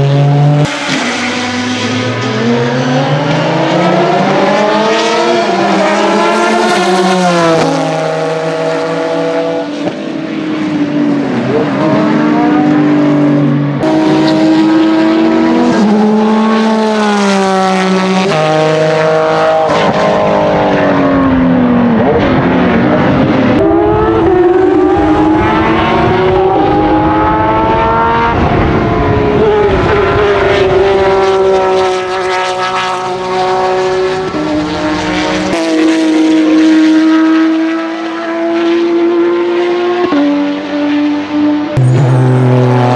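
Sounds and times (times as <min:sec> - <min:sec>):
race car engines revving: 0:00.0 - 0:42.9
race car passing by: 0:00.0 - 0:42.9.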